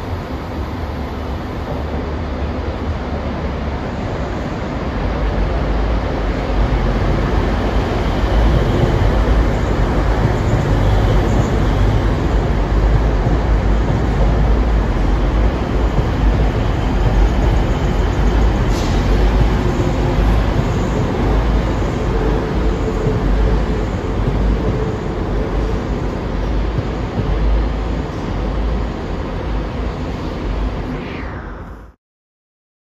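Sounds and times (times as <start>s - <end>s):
wheel and rail noise: 0.0s - 31.3s
diesel train engine drone: 0.0s - 32.0s.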